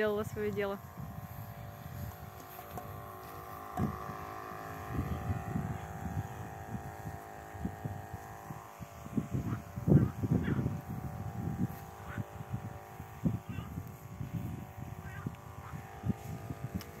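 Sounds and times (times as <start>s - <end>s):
sprayer pump humming: 0.0s - 17.0s
wind buffeting microphone: 0.0s - 17.0s.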